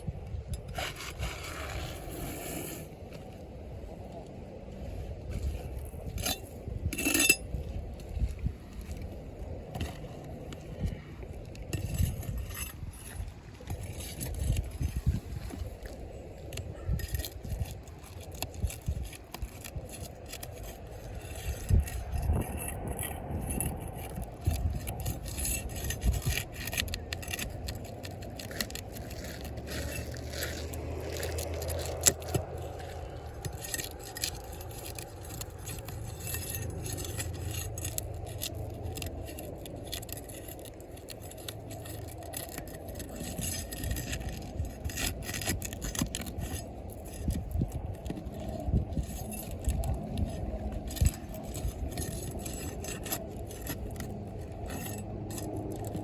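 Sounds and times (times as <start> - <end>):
hand tools scraping roof shingles: 0.5 - 3.2, 9.7 - 56.0.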